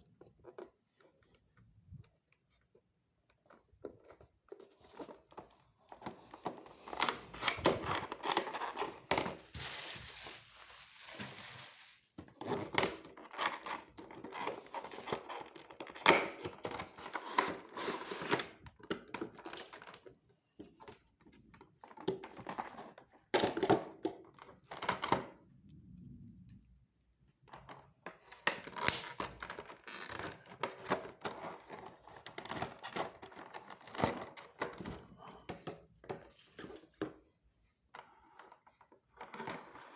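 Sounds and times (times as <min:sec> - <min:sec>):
cardboard and plastic rustling: 0:03.3 - 0:25.4, 0:27.7 - 0:39.9.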